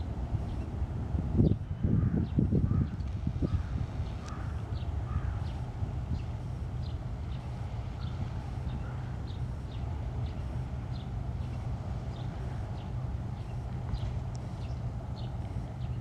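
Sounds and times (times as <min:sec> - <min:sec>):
low rumble of wind or traffic: 0:00.0 - 0:16.0.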